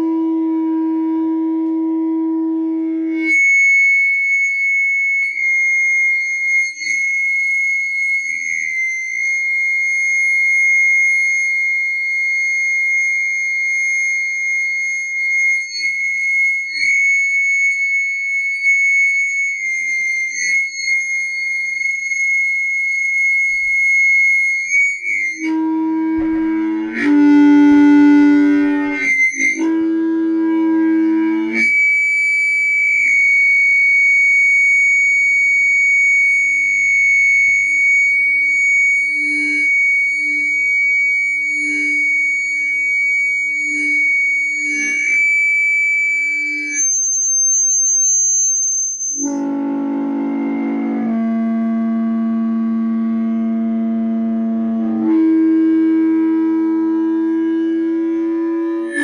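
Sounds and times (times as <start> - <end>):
audio feedback squealing: 0.0 - 59.0.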